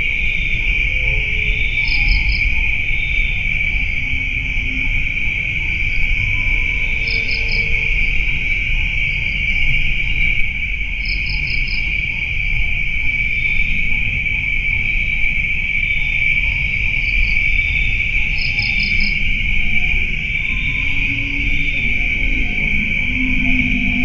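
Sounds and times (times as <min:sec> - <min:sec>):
low rumbling background: 0:00.0 - 0:11.0, 0:11.8 - 0:24.0
cricket trill: 0:00.0 - 0:24.0.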